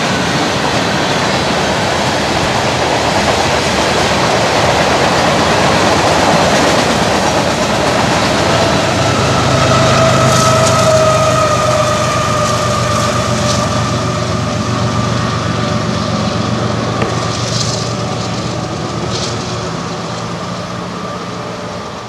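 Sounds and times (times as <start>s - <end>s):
diesel locomotive engine drone: 0.0s - 22.0s
high whine: 0.0s - 22.0s.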